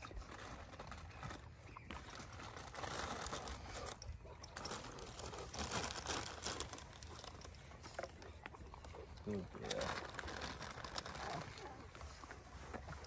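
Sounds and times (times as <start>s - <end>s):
plastic packet crinkling: 0.0s - 8.3s, 9.3s - 12.2s.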